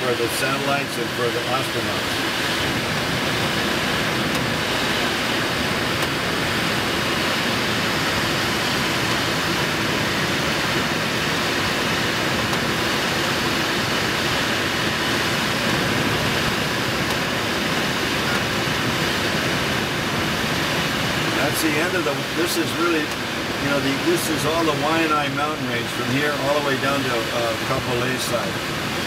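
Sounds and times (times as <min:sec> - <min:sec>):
air rushing over glider: 0:00.0 - 0:29.0.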